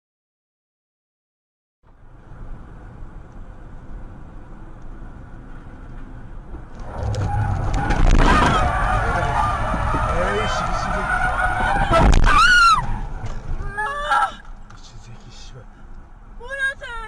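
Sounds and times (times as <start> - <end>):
car engine and road noise: 1.8 - 17.0.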